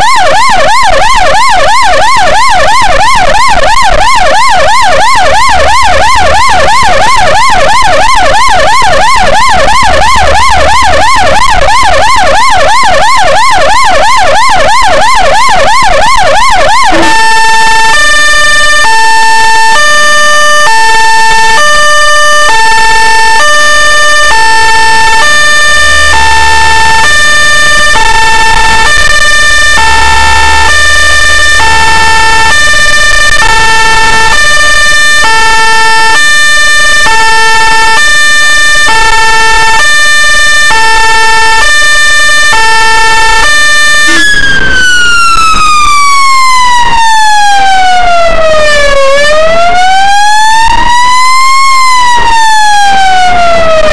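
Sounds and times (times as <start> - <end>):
ambulance siren: 0.0 - 53.9.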